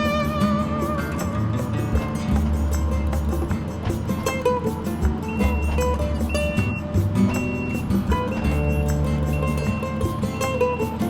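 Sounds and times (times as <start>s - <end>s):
background music with beat and bass: 0.0s - 11.0s
plucked guitar notes: 0.0s - 11.0s.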